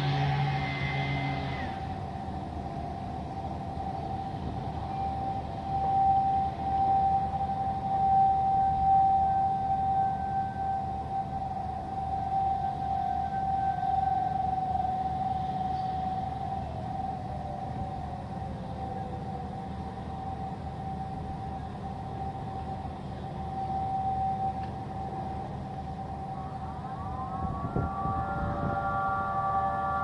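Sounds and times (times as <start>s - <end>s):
higher siren tones rising: 0.0s - 30.0s
siren pitch falling: 0.0s - 30.0s
steady siren tone: 0.0s - 30.0s.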